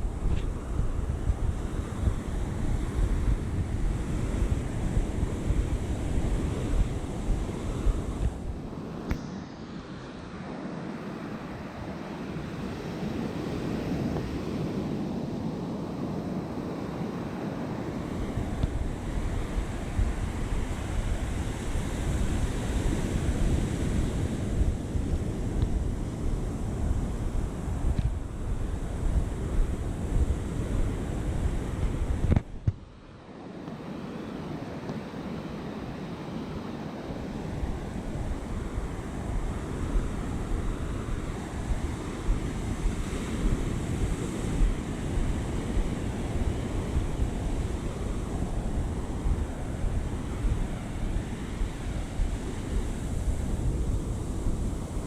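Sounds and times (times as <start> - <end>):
wind buffeting microphone: 0.0 - 9.4, 10.4 - 55.0
ocean surf washing onto beach: 0.0 - 55.0.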